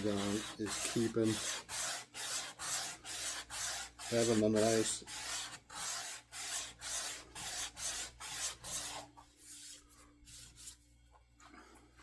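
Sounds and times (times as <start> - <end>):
sanding wood by hand: 0.0 - 9.7.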